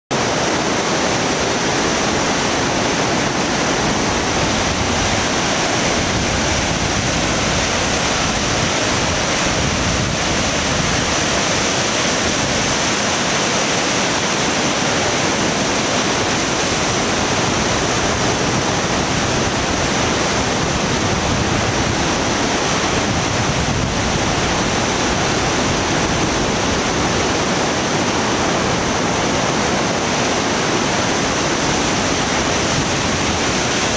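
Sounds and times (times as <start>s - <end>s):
river water roaring: 0.1s - 33.9s.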